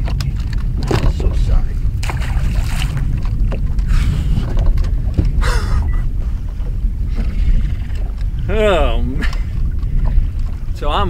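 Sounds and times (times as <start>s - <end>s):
choppy water: 0.0s - 11.0s
wind rumbling on microphone: 0.0s - 11.0s.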